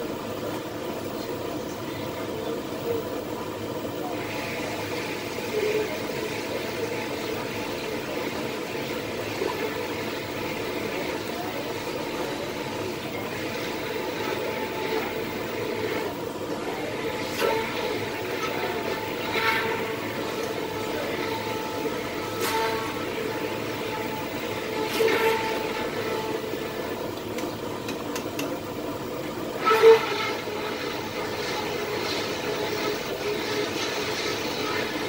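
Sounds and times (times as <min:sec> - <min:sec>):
soap pots cooking over gas burners: 0:00.0 - 0:35.0.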